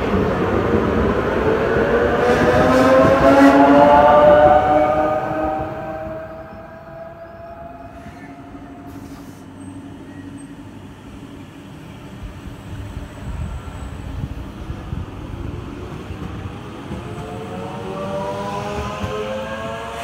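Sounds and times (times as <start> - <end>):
electric train hum and rumble: 0.0 - 20.0.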